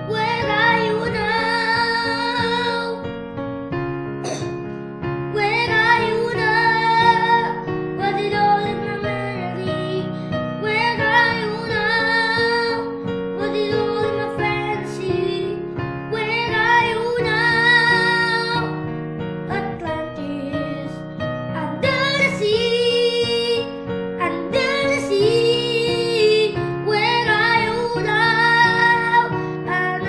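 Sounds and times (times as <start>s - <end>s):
child singing: 0.0s - 3.1s, 5.3s - 18.7s, 19.5s - 21.0s, 21.6s - 30.0s
grand piano pop ballad: 0.0s - 30.0s.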